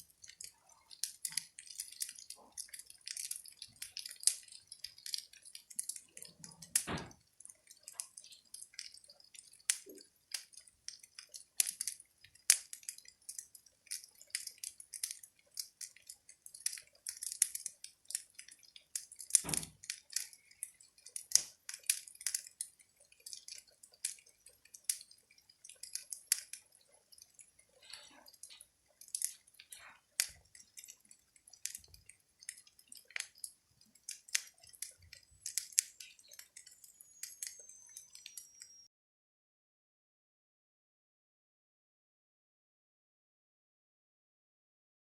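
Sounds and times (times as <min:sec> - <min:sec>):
wood fire crackling: 0:00.0 - 0:38.8.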